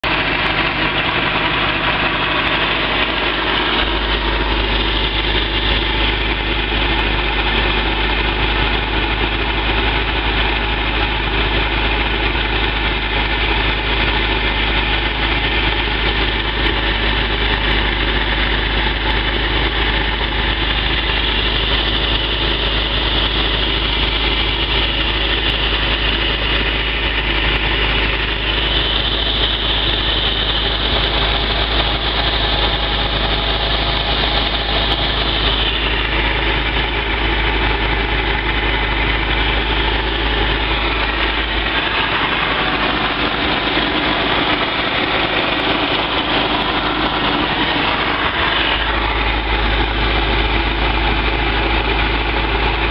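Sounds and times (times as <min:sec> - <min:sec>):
boat engine idling: 0:00.0 - 0:52.9.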